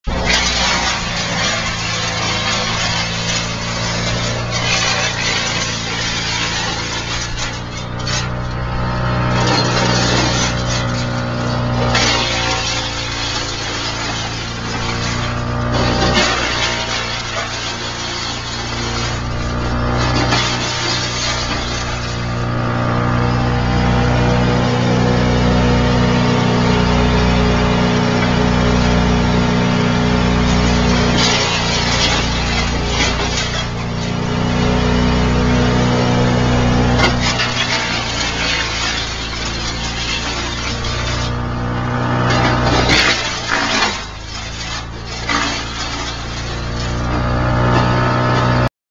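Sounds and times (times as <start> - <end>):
wood chipper engine humming: 0.0 - 48.7.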